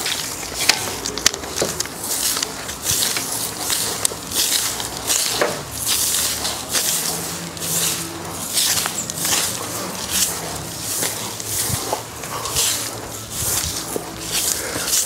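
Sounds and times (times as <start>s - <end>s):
broom sweeping sandy ground: 2.0s - 15.0s.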